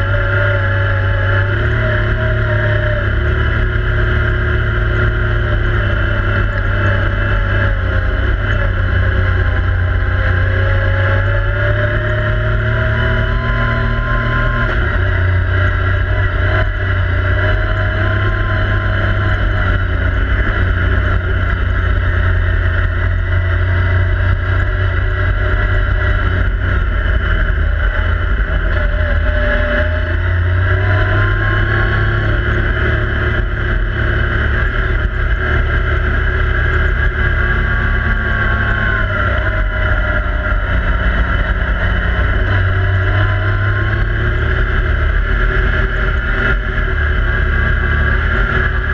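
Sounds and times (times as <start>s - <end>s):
heavy low rumble: 0.0s - 48.9s
vehicle engine running loud: 0.0s - 48.9s.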